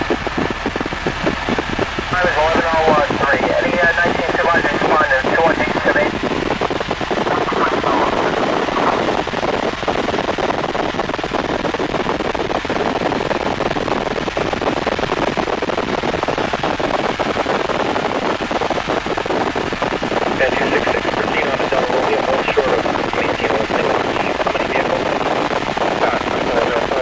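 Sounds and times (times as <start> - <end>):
helicopter engine and airflow: 0.0 - 27.0
helicopter rotor chopping: 0.0 - 27.0.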